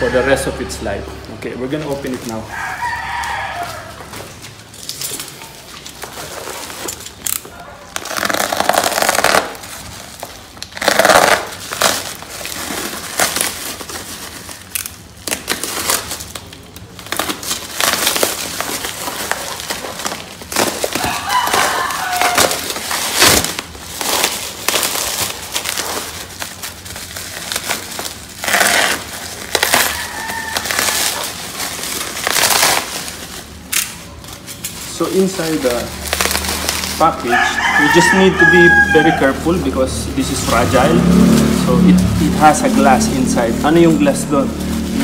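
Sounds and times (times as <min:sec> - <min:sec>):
plastic packaging crinkling: 0:01.6 - 0:45.0.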